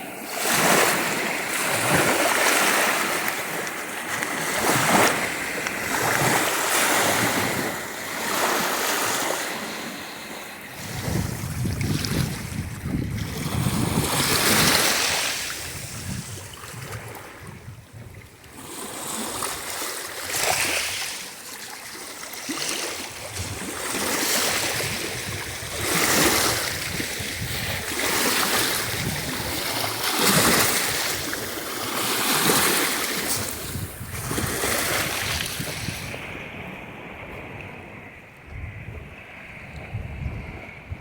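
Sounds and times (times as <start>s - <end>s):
wind buffeting microphone: 0.0s - 18.5s, 23.0s - 41.0s
waves breaking on shore: 0.0s - 38.5s.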